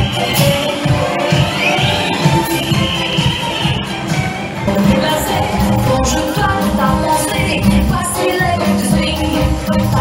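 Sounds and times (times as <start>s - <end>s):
loud upbeat music: 0.0s - 10.0s.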